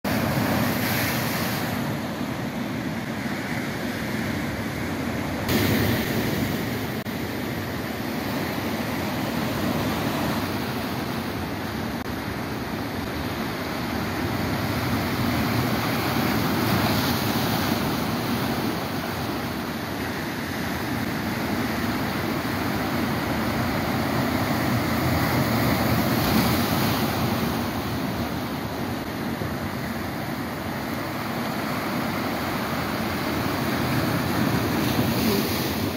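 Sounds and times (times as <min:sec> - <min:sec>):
surf breaking on rocky shore: 0:00.1 - 0:35.9.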